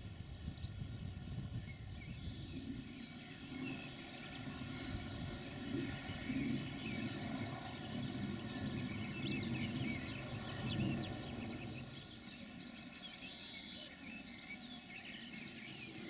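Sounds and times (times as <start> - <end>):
distant low engine rumble: 0.0 - 13.0
birds chirping: 0.0 - 16.0.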